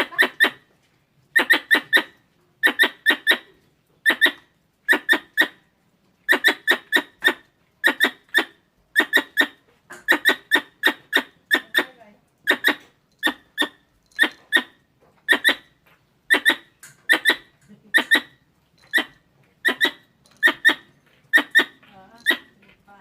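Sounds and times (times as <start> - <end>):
squirrel calls: 0.0 - 0.7, 1.3 - 22.8.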